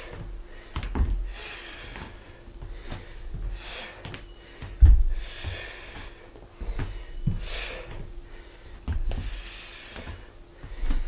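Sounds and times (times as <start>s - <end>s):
bare feet thudding on wooden floor: 0.0s - 8.2s, 8.8s - 11.0s
person breathing hard: 0.0s - 11.0s.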